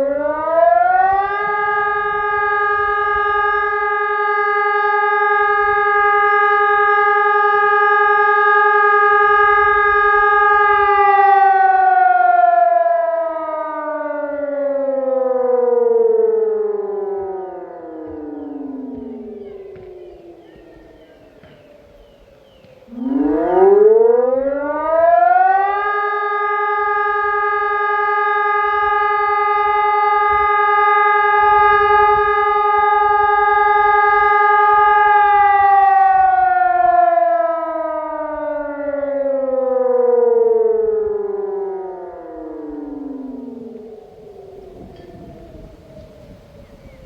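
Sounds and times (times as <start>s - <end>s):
electronic siren tone: 0.0s - 47.0s.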